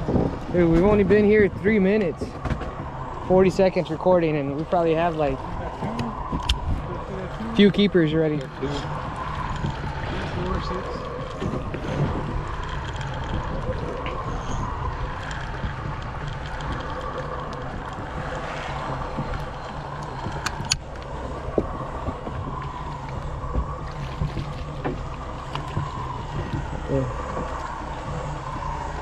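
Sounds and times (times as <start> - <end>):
boat engine rumble: 0.0 - 29.0
wind on microphone: 0.0 - 29.0.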